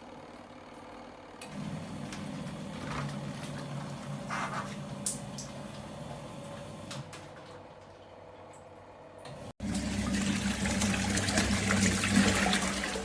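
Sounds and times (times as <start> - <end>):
washing machine motor humming: 0.0 - 13.0.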